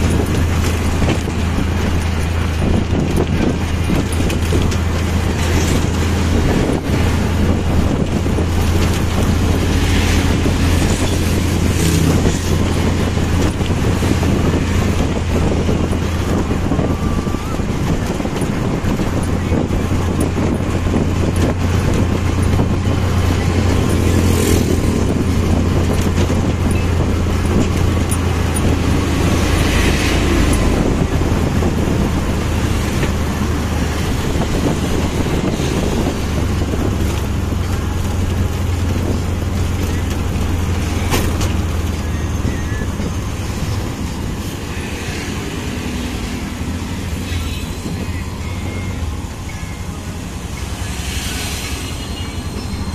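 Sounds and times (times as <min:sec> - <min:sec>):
motorcycle engine drone: 0:00.0 - 0:52.9
road and wind noise: 0:00.0 - 0:52.9.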